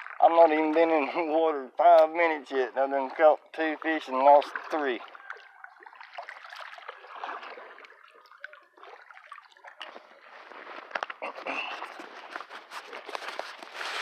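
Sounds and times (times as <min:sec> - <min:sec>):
water trickling and gurgling: 0:00.0 - 0:14.0.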